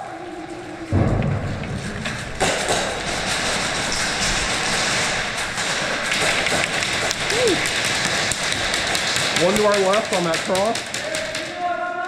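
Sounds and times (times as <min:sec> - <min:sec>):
gear rushing and rustling: 0:00.0 - 0:11.8
clicks and knocks: 0:00.9 - 0:11.6.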